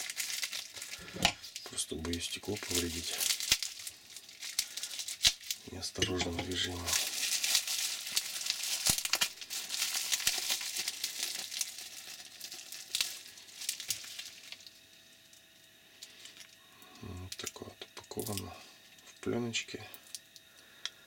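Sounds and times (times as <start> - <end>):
bubble wrap crinkling: 0.0 - 19.2.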